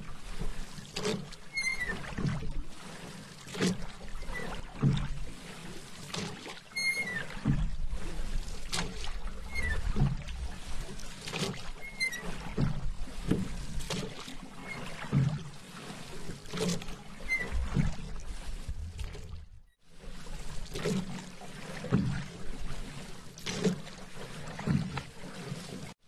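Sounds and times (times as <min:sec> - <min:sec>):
paddle splashing in water: 0:00.0 - 0:26.0
water lapping: 0:00.0 - 0:26.0.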